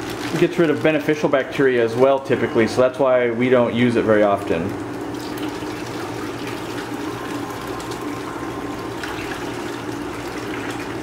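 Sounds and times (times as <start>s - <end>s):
water pouring into bucket: 0.0s - 2.3s, 4.3s - 11.0s.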